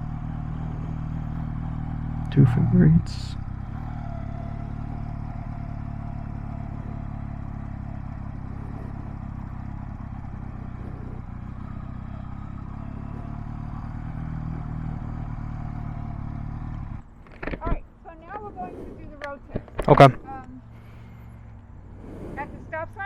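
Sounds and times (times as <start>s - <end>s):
motorcycle engine running at low speed: 0.0s - 23.0s.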